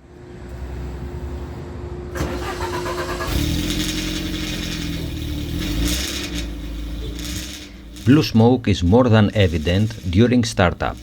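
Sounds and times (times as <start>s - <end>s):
car engine starting and running: 2.1s - 11.0s.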